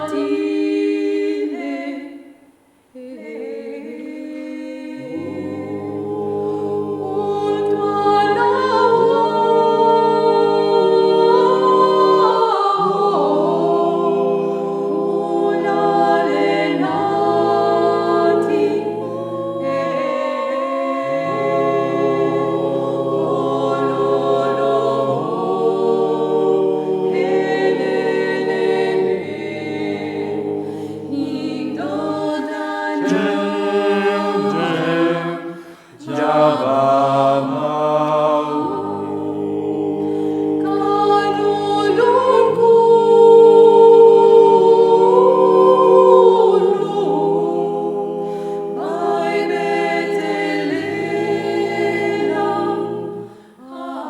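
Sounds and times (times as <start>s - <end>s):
a cappella vocal ensemble singing: 0.0s - 54.0s.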